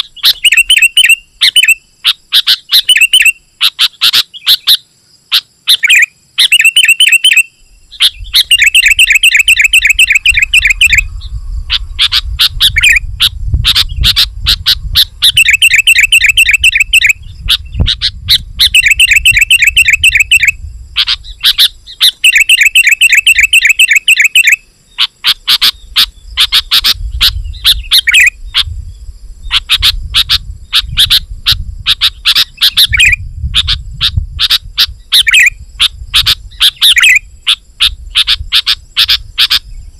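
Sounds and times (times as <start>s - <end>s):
bulbul chattering and chirping: 0.0s - 28.8s, 29.4s - 39.9s.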